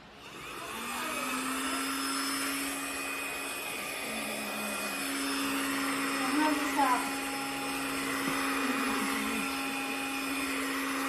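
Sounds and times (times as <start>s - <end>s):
handheld vacuum cleaner whining: 0.0s - 11.0s.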